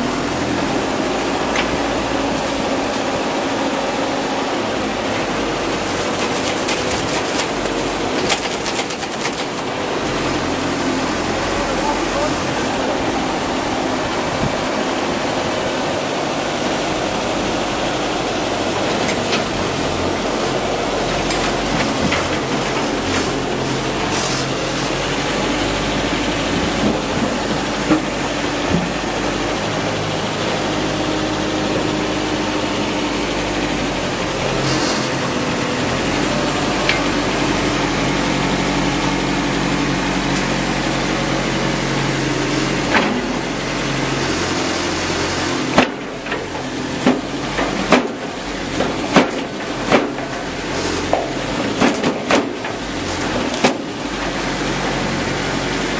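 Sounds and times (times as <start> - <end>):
drilling rig engine running: 0.0 - 55.9.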